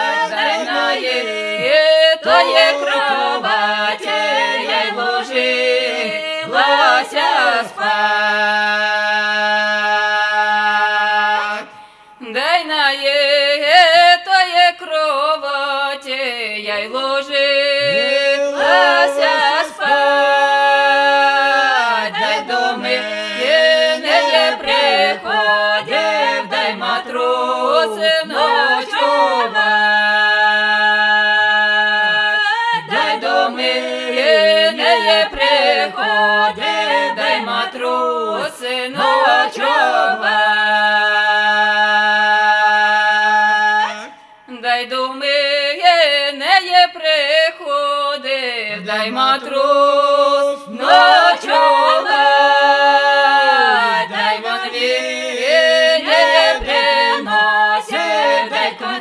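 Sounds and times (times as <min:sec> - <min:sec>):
voices singing a cappella harmony: 0:00.0 - 0:59.0.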